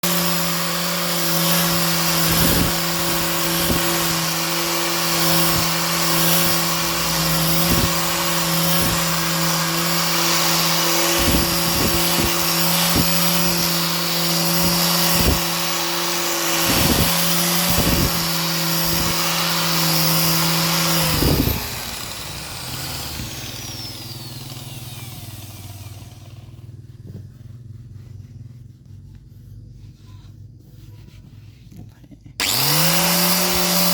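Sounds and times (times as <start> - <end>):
power tool humming: 0.0 - 26.9, 32.4 - 33.9
falling whine of tool: 0.0 - 27.3, 32.4 - 33.9.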